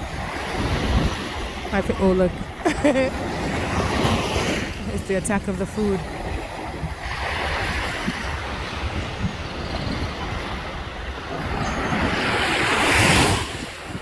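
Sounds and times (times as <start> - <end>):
surf washing ashore: 0.0 - 14.0
wind buffeting microphone: 0.0 - 14.0.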